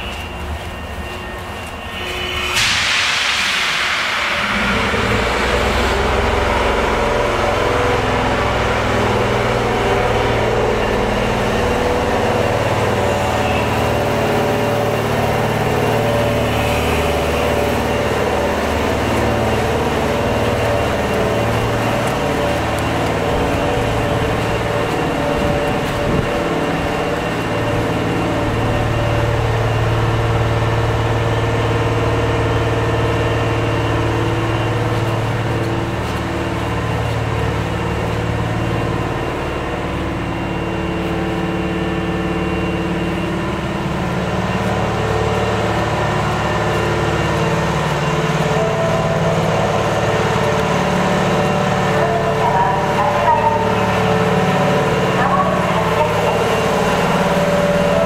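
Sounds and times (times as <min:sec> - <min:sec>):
electric train humming: 0:00.0 - 0:58.0.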